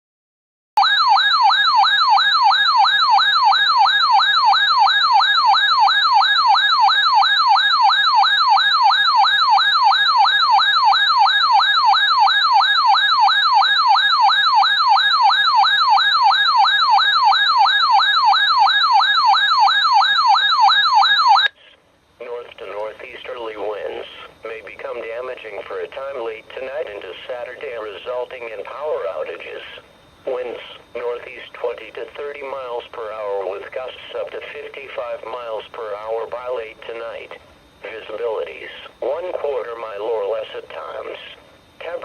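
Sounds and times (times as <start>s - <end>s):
warbling electronic siren alarm: 0.8s - 42.0s.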